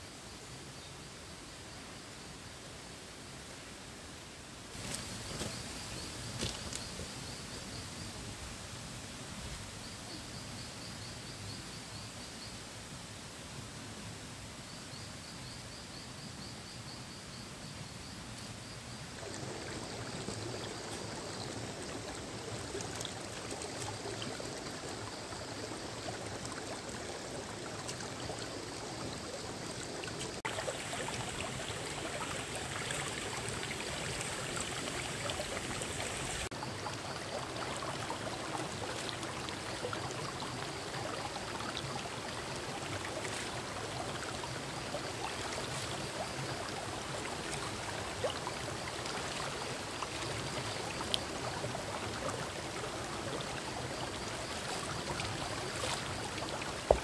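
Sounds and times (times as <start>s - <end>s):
stream running over rocks: 1.5s - 12.0s, 18.0s - 57.0s.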